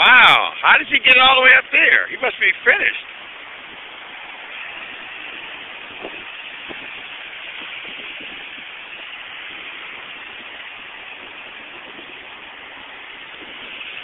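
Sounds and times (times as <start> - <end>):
surf washing onto pebbles: 0.0 - 14.0.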